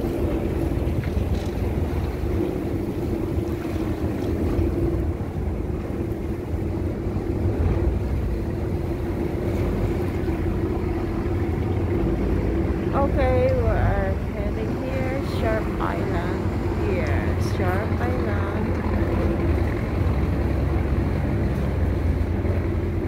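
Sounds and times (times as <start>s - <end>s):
boat engine rumbling: 0.0s - 23.0s
water rushing along hull: 0.0s - 23.0s
wind buffeting microphone: 0.0s - 23.0s.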